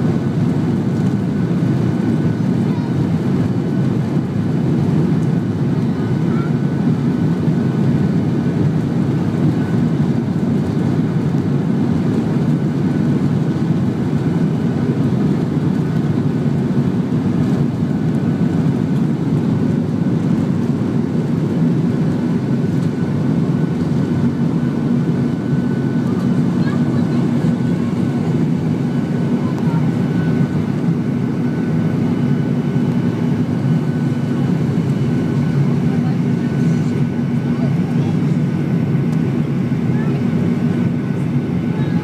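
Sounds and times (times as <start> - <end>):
jet engine rumble: 0.0 - 42.0.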